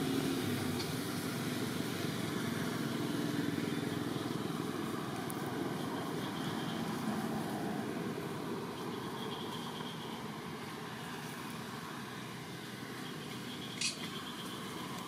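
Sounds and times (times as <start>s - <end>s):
distant traffic hum: 0.0s - 15.0s.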